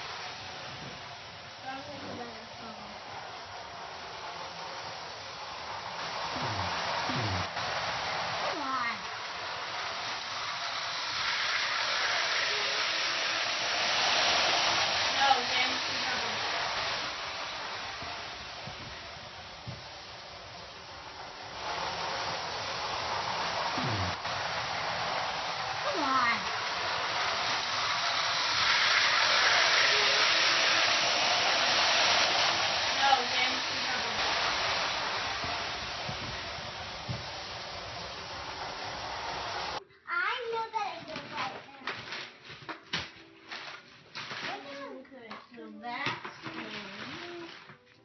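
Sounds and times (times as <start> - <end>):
toy train running on track: 0.0 - 47.8.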